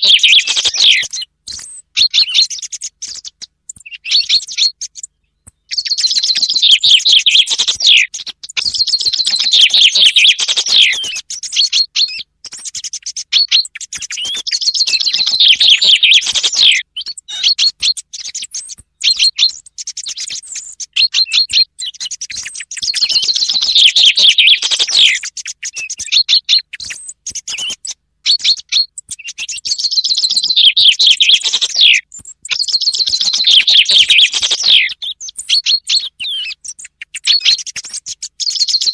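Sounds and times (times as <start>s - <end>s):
chaffinch song: 0.0s - 38.9s.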